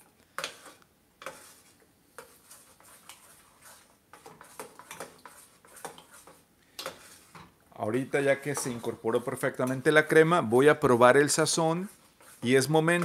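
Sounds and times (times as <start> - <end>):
spoon stirring thick soup: 0.2 - 13.0.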